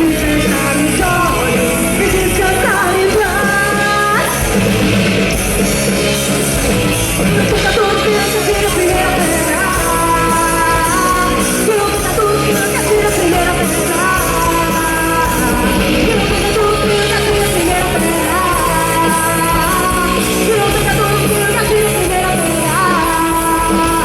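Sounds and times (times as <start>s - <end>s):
person singing: 0.0s - 4.9s, 5.8s - 24.0s
live rock band playing: 0.0s - 24.0s.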